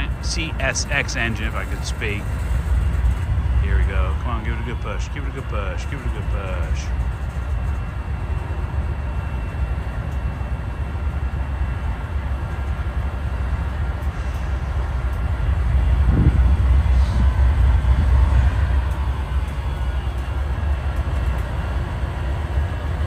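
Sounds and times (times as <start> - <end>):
locomotive engine rumble: 0.0 - 23.0.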